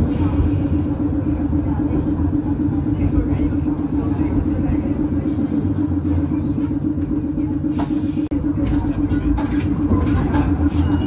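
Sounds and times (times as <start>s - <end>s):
constant low hum: 0.0s - 11.0s
streetcar wheels rumbling on track: 0.0s - 11.0s.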